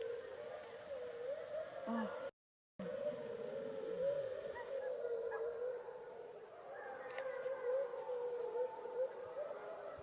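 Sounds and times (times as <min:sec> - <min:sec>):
wolves howling: 0:00.0 - 0:10.0.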